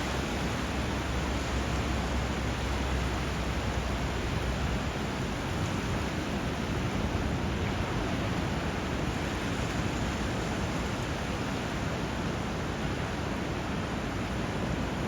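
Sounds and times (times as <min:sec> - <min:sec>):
rushing water and surf: 0:00.0 - 0:15.0.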